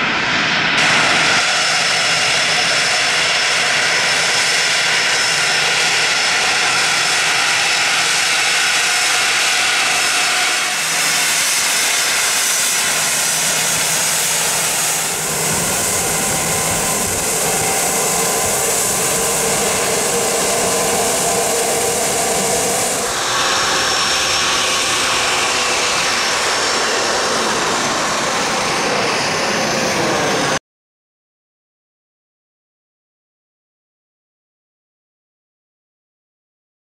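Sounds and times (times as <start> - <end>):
jet engines whining: 0.0 - 30.6
jet takeoff roar: 0.0 - 30.6.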